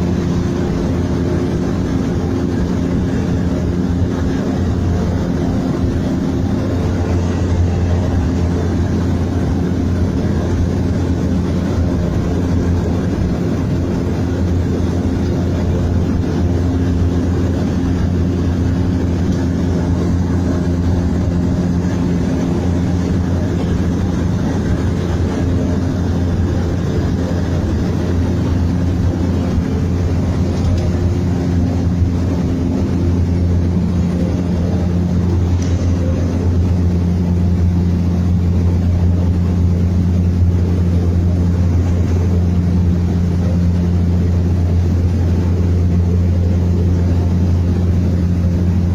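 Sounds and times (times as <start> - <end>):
seaplane engine droning: 0.0 - 48.9.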